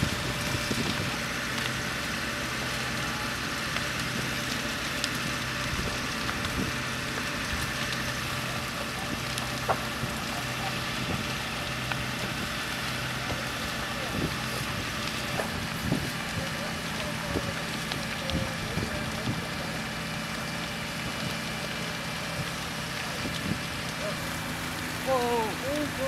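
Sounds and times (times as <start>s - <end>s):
engine hum: 0.0s - 26.0s
fire crackles and pops: 0.0s - 26.0s
fire rushing: 0.0s - 26.0s.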